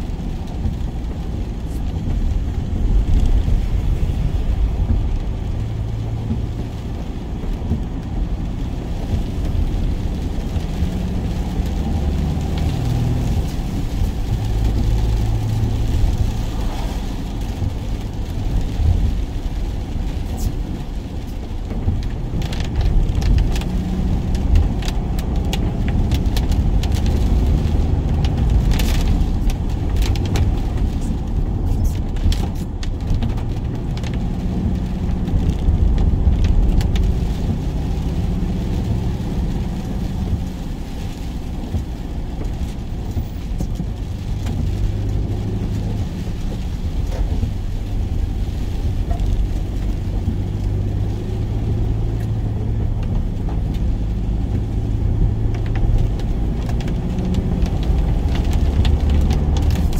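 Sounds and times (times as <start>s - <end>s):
van engine and road rumble: 0.0s - 59.9s.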